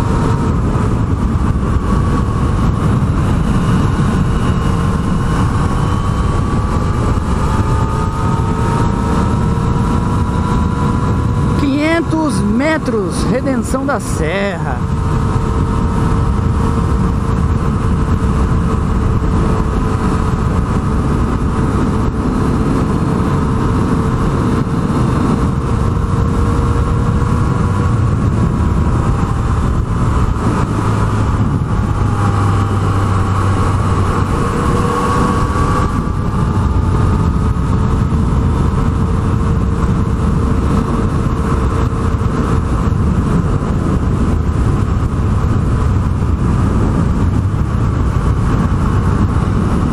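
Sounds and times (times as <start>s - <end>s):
motorcycle engine running: 0.0s - 49.9s
wind noise rushing: 0.0s - 49.9s.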